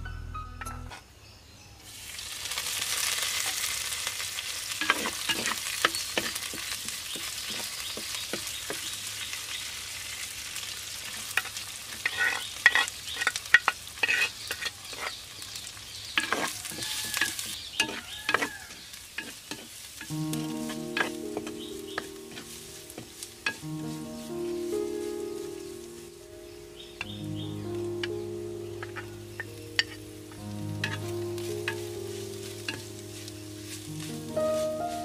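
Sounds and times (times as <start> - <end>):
food sizzling in hot oil: 1.8 - 35.0.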